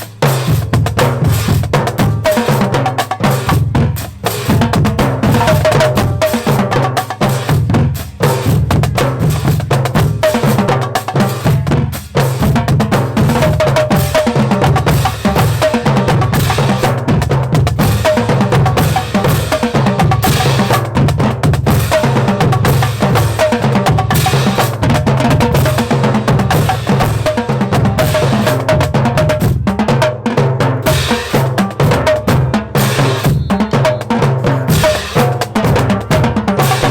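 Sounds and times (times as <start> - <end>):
bass drums: 0.0 - 36.9
rapid snare drum strokes: 0.0 - 36.9.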